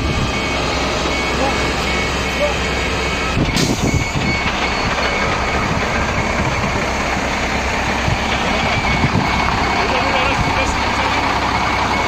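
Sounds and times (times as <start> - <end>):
fire truck engine idling: 0.0 - 12.0.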